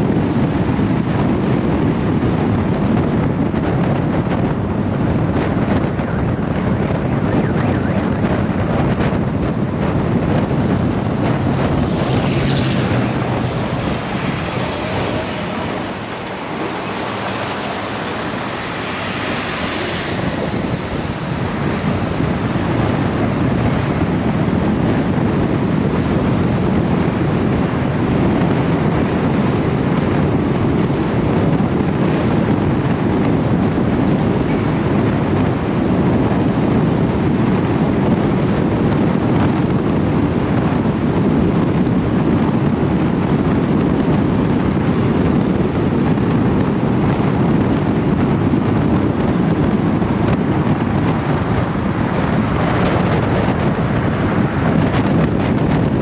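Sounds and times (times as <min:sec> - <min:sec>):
tyre and wind noise: 0:00.0 - 0:56.0
wind buffeting microphone: 0:00.0 - 0:56.0.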